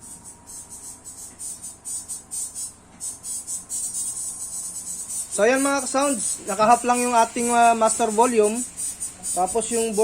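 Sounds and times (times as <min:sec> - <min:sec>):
thin hissy treble music from tweeters: 0:00.0 - 0:10.0.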